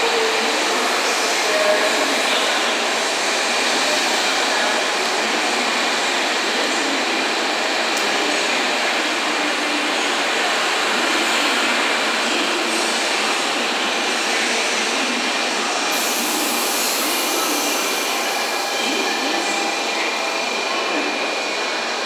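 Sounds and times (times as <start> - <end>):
train running and wheel noise: 0.0 - 22.0.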